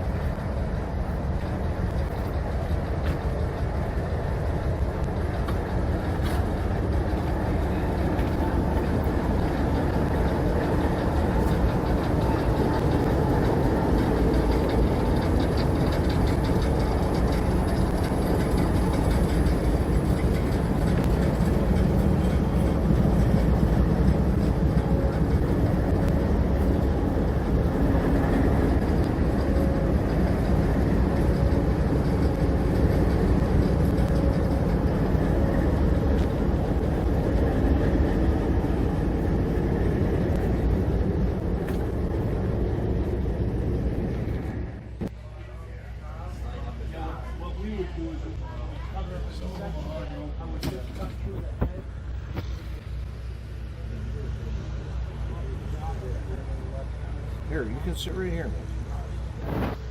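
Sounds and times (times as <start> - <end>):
diesel locomotive engine idling: 0.0 - 59.9.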